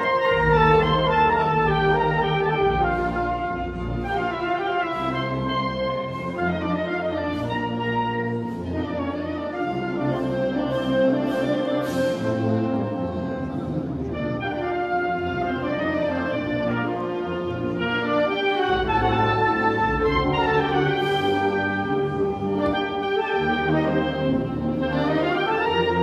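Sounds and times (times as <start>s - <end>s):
wind band playing held notes: 0.0s - 26.0s.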